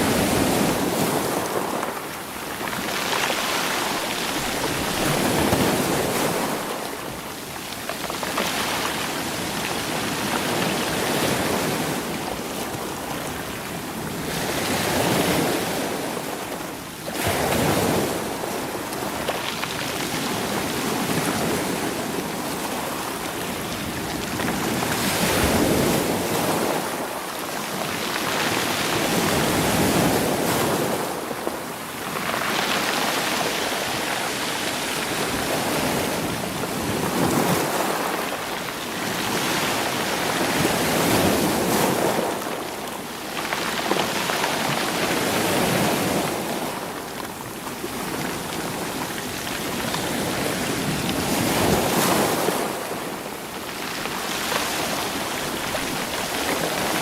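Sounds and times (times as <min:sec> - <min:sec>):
sea waves washing against rocks: 0:00.0 - 0:57.0.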